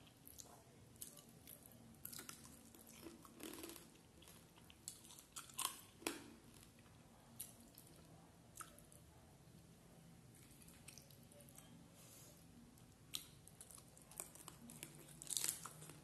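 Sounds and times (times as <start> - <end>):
person chewing: 0.0 - 9.0, 10.4 - 11.7, 12.8 - 16.0
soft eating clicks and smacks: 0.0 - 9.7, 10.3 - 11.9, 12.7 - 16.0.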